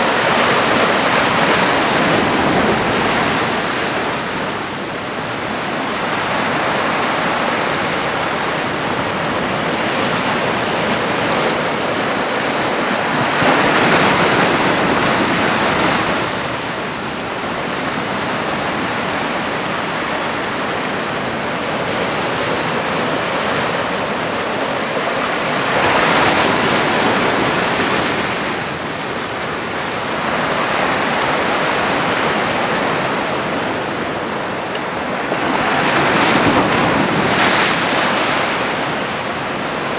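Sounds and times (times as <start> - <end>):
heavy surf breaking: 0.0 - 39.9.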